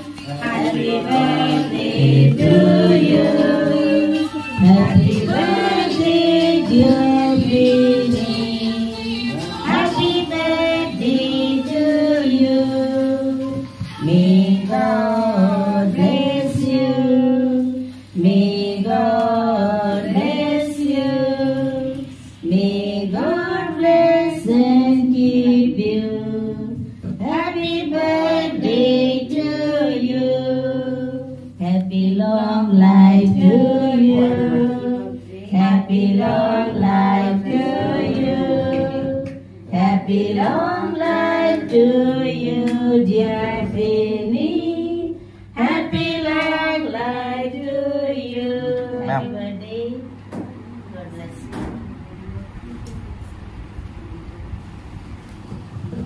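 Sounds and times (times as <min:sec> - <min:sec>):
woman singing into microphone: 0:00.0 - 0:50.2
women and children singing: 0:00.0 - 0:50.5.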